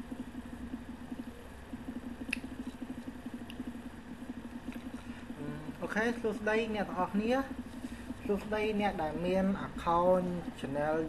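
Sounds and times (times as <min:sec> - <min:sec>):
low buzzing hum: 0:00.0 - 0:11.0.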